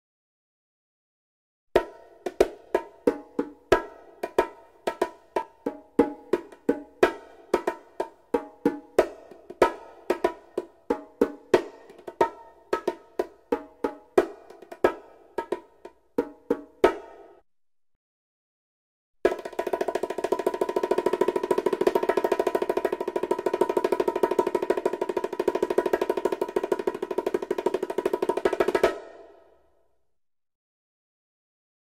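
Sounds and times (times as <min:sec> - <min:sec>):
bongo drums played by hand: 0:01.8 - 0:17.4, 0:19.3 - 0:29.4.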